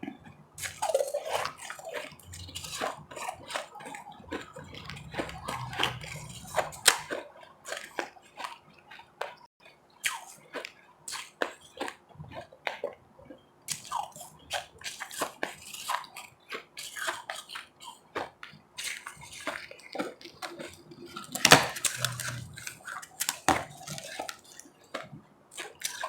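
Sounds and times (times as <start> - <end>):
ice being chewed and crunched: 0.0 - 26.0.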